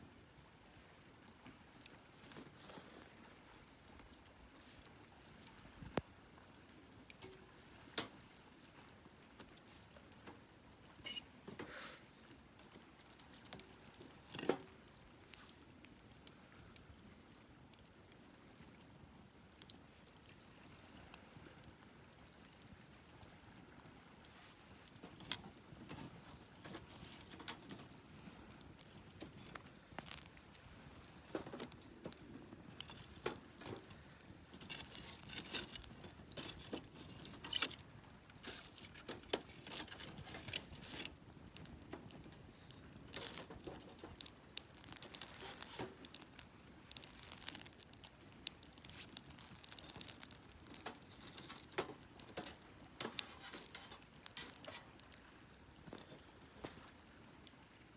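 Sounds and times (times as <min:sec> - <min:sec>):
wood fire crackling: 0:00.0 - 0:57.9
sharp pops from fire: 0:05.8 - 0:18.8, 0:19.5 - 0:56.9.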